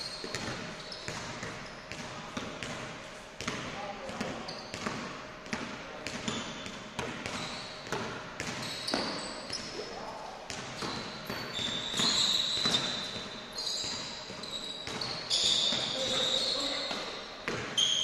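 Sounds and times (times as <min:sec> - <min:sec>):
sneaker squeaks: 0:00.0 - 0:18.0
basketball bouncing on wooden floor: 0:00.2 - 0:09.7, 0:10.5 - 0:18.0.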